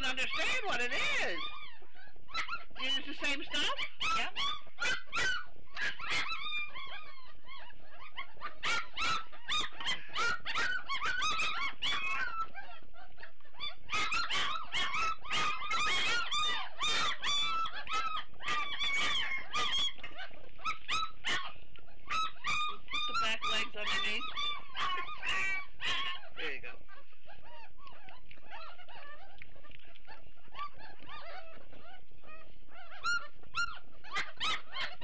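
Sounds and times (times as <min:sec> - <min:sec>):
puppies whining and squealing: 0:00.0 - 0:35.0.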